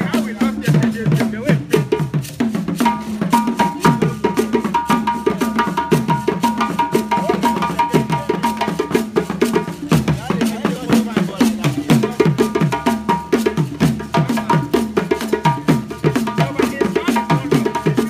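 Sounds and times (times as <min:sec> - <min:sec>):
hand drums beating polyrhythm: 0:00.0 - 0:18.0.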